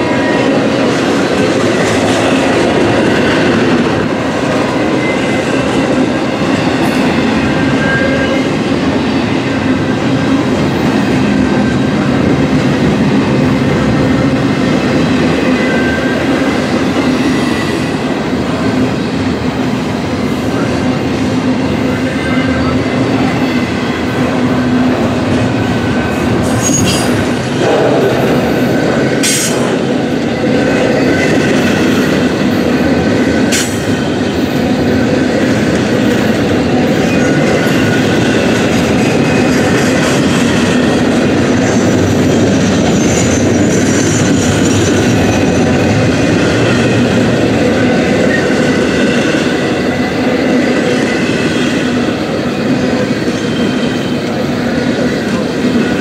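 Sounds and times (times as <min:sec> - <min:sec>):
steel wheels squealing on rails: 0:00.0 - 0:56.0
train cars rolling: 0:00.0 - 0:56.0.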